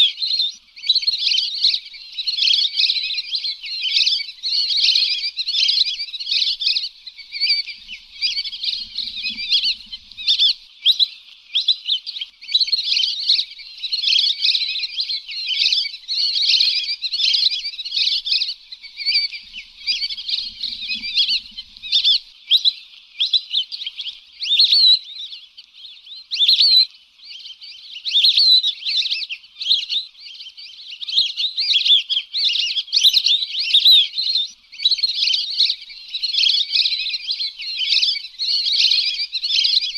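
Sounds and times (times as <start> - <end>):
whistling ducks calling: 0.0 - 39.9.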